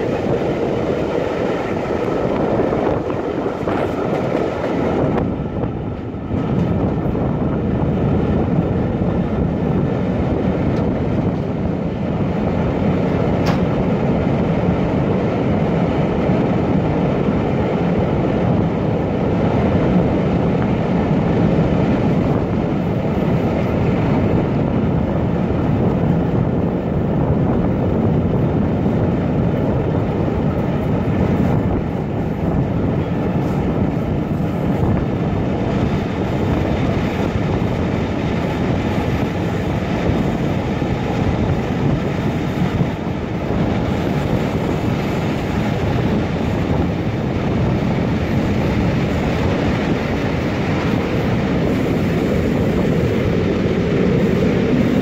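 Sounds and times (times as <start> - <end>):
train wheels rumbling on rails: 0.0 - 55.0
wind rush: 0.0 - 55.0.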